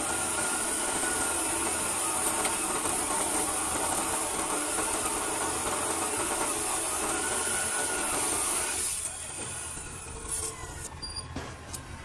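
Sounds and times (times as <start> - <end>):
cut-off saw grinding steel: 0.0 - 10.9.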